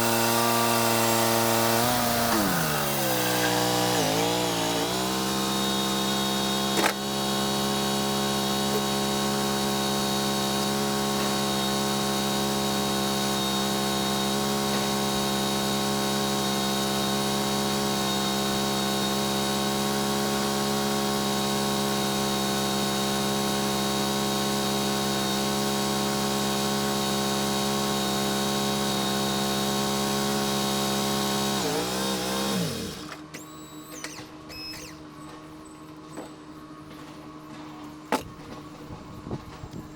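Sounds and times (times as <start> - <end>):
band sawmill engine running: 0.0 - 39.9.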